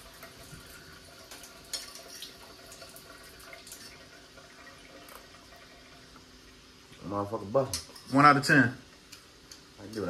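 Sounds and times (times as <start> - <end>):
faint hiss and hum: 0.0 - 10.0.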